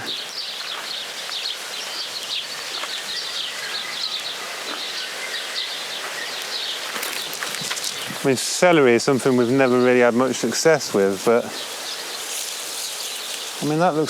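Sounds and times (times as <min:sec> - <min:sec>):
small birds chirping: 0:00.0 - 0:14.0
steady background hiss: 0:00.0 - 0:14.0.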